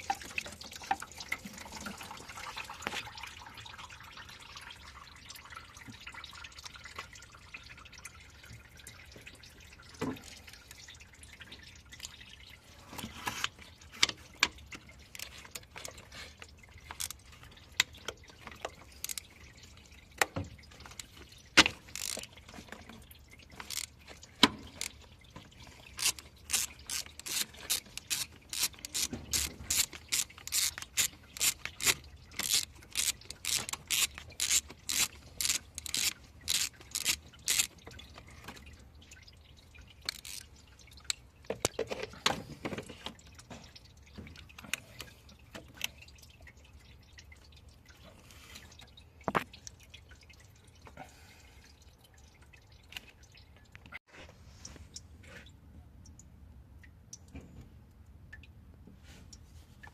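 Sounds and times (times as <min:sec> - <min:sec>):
liquid dripping: 0:00.0 - 0:59.9.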